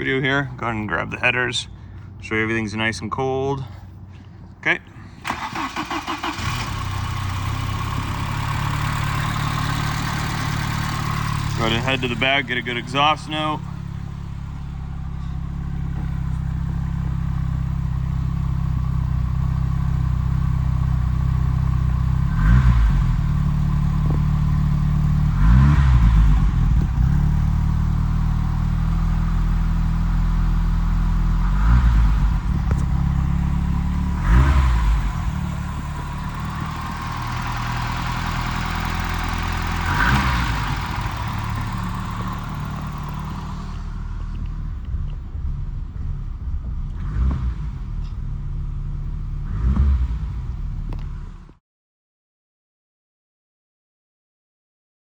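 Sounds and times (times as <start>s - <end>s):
car engine idling and revving: 3.8s - 51.6s.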